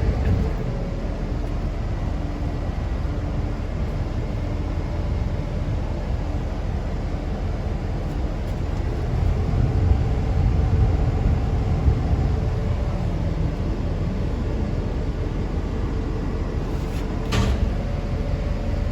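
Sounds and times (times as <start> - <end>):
diesel engine rumbling: 0.0 - 18.9.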